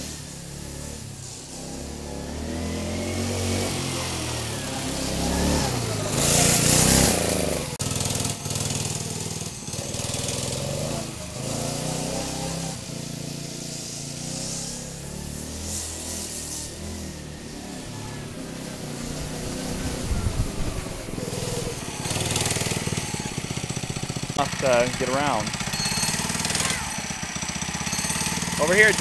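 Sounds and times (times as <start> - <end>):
go-kart engine revving: 0.0 - 29.0.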